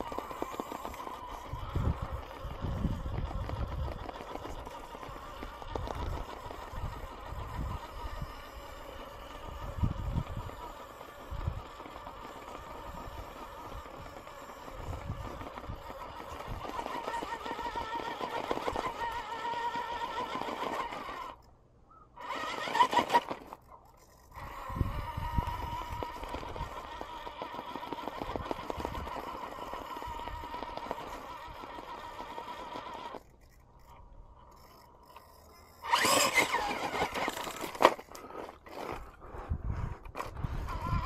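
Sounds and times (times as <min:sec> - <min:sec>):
rc car motor whining: 0:00.0 - 0:41.0.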